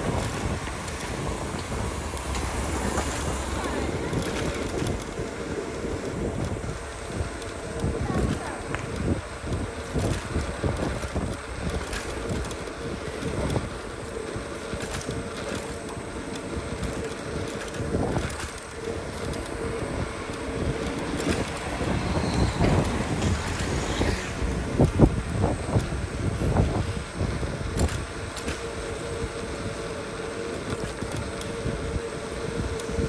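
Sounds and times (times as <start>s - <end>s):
scooter wheels rumbling on pavement: 0.0s - 33.0s.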